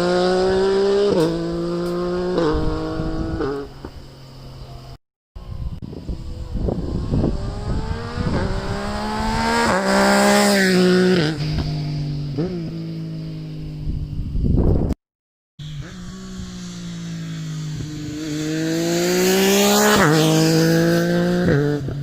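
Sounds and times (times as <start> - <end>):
motorcycle engine accelerating past: 0.0 - 14.7, 15.6 - 22.0.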